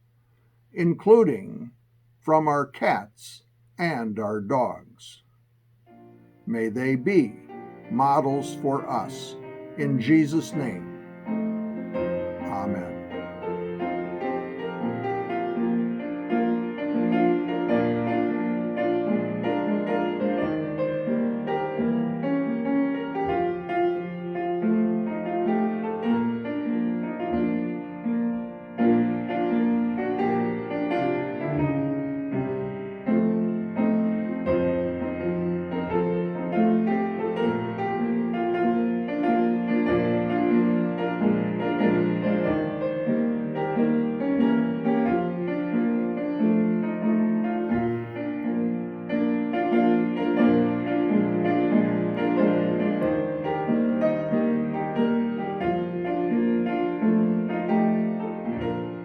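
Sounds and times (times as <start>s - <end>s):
gentle piano music: 5.8s - 59.0s.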